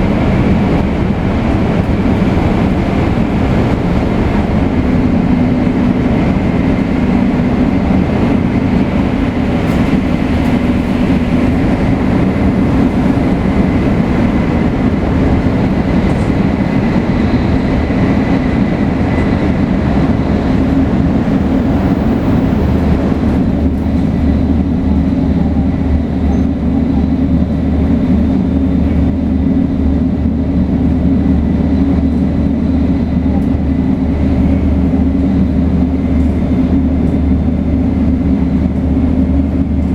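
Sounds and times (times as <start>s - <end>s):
high-speed train rushing: 0.0s - 39.9s.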